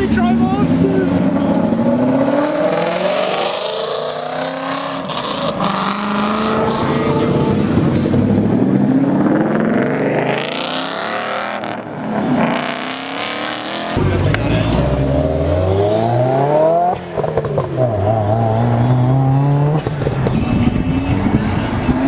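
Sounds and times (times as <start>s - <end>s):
cars accelerating: 0.0s - 22.0s.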